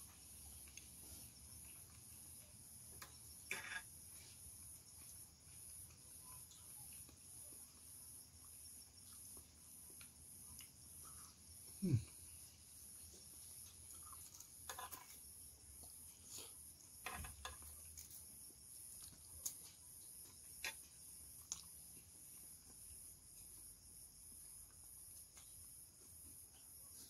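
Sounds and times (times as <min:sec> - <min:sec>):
pulsing cricket-like chirp: 0:00.0 - 0:27.0
soft chewing: 0:00.0 - 0:27.0.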